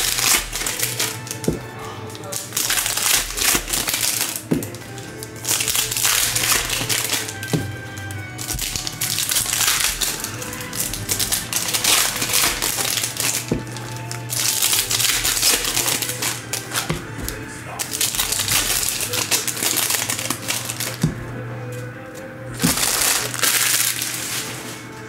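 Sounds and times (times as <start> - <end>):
background music: 0.0 - 25.0
foil wrappers tearing and crinkling: 0.0 - 25.0.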